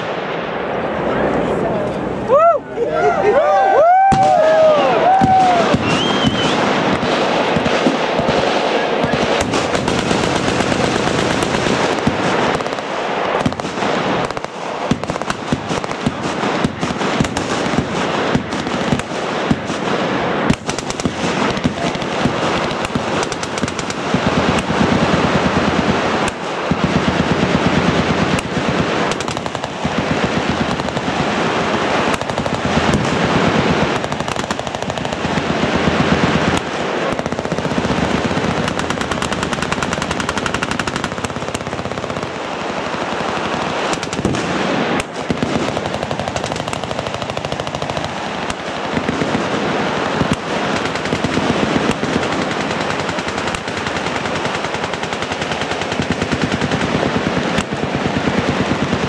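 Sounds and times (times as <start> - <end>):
machine guns firing: 4.1 - 59.0.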